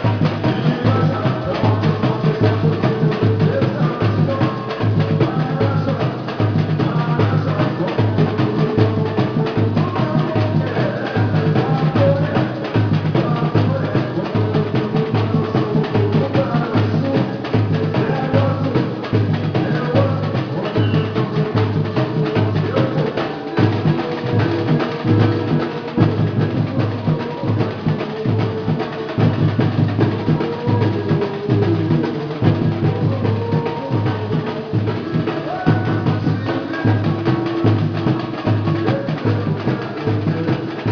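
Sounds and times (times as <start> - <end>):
deep bass drums beating: 0.0 - 40.9
drum group playing: 0.0 - 40.9
hand percussion: 0.0 - 40.9.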